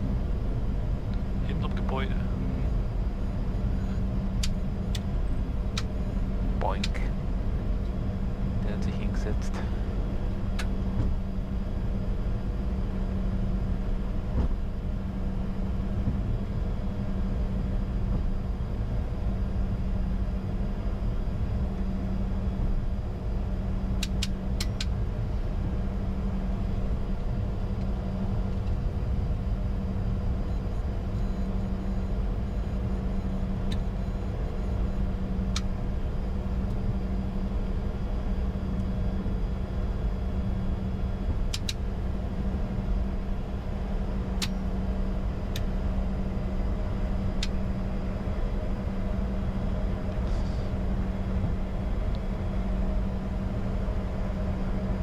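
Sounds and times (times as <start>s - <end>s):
aircraft cockpit low rumble: 0.0s - 55.0s
steady hum: 0.0s - 55.0s.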